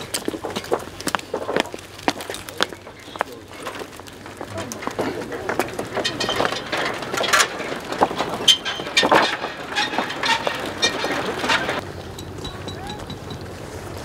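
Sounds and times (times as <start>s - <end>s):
bicycle clicking and rattling: 0.0s - 13.8s.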